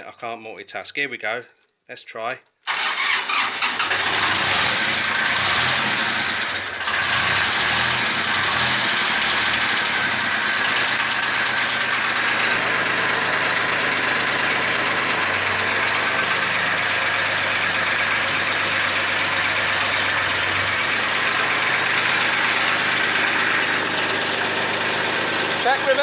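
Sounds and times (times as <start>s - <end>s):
tractor diesel engine running: 2.7s - 26.0s.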